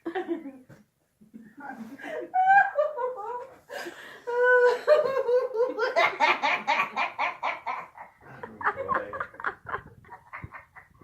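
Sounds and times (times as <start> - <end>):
woman laughing: 1.6 - 11.0.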